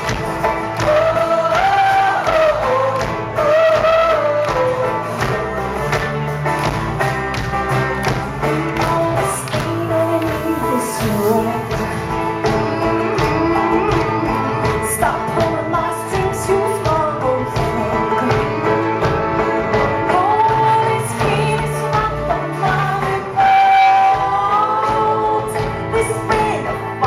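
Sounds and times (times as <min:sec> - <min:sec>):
folk-pop band playing: 0:00.0 - 0:27.0
women singing: 0:00.8 - 0:05.6, 0:08.4 - 0:19.1, 0:19.7 - 0:27.0.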